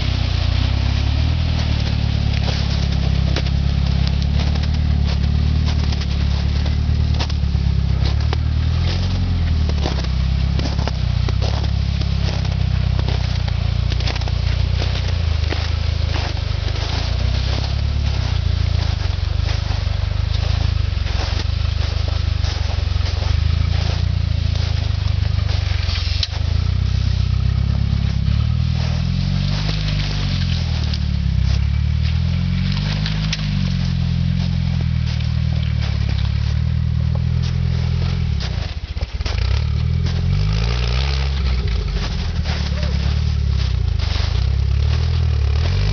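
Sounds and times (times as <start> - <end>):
engine revving: 0.0 - 45.9
tyres crunching and scraping on rock: 0.0 - 45.9.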